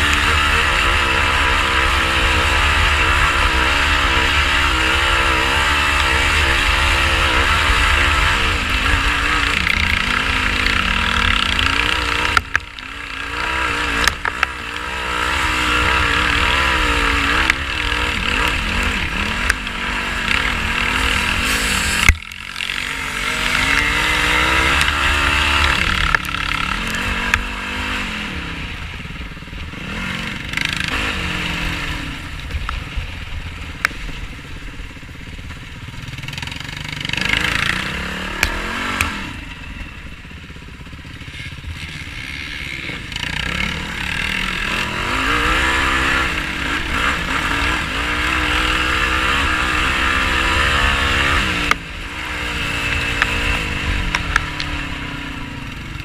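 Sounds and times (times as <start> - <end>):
quad engine revving off-road: 0.0 - 56.0.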